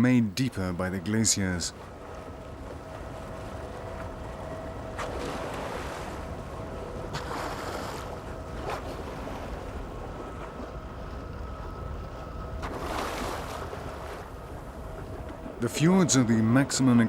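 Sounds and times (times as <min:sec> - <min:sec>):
faint steady hum: 0:00.0 - 0:17.0
wind and water rushing: 0:00.0 - 0:17.0.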